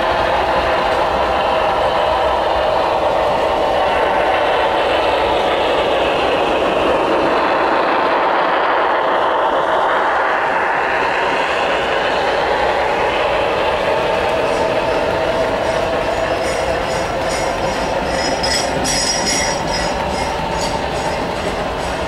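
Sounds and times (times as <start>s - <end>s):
cars rolling on track: 0.0s - 22.0s
model steam locomotive sound: 0.0s - 22.0s.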